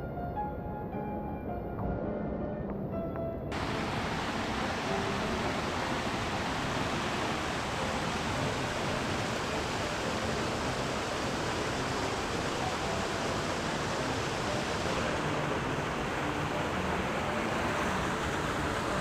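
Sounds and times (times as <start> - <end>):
fast-flowing river rushing: 3.5 - 19.0.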